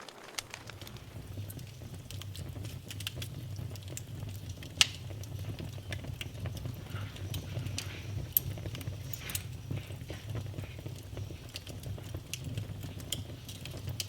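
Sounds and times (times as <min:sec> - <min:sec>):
firewood crackling and popping: 0:00.0 - 0:14.0
low steady rumble: 0:00.5 - 0:14.0.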